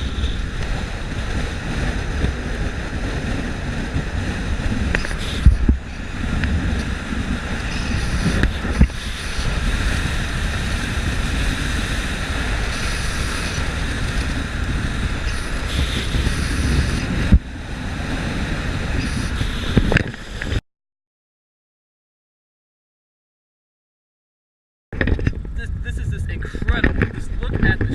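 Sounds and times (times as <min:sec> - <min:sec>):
strong wind buffeting microphone: 0:00.0 - 0:20.6, 0:25.0 - 0:27.9.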